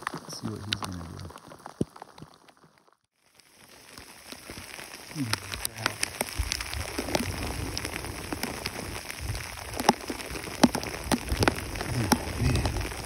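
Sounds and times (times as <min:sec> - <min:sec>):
heavy rain falling: 0:00.0 - 0:02.1, 0:03.3 - 0:13.0
sharp ticks of raindrops: 0:00.0 - 0:13.0.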